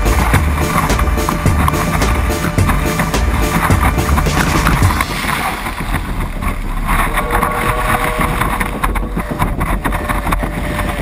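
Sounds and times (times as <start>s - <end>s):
surf rushing: 0.0s - 11.0s
wind buffeting microphone: 0.0s - 11.0s.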